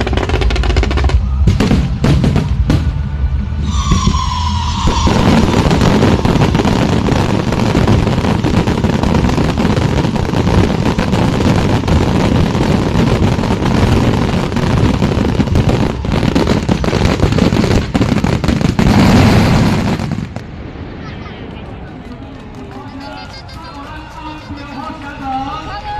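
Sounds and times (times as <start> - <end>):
fireworks crackling and banging: 0.0 - 25.9.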